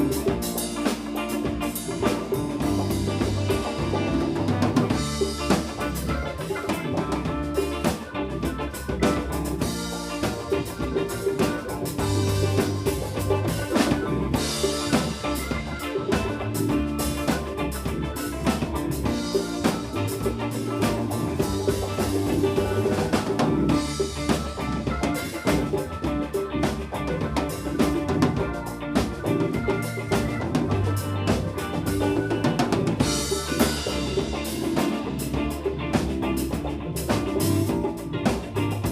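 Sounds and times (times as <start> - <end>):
bass line: 0.0 - 38.9
drum kit: 0.0 - 38.9
live funk band: 0.0 - 38.9.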